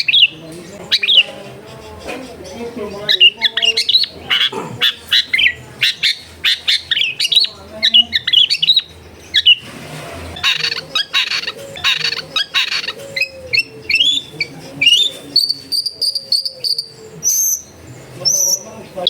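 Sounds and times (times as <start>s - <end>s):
bird singing: 0.0s - 9.7s, 10.3s - 19.0s
harsh buzzy bird chatter: 0.0s - 19.0s.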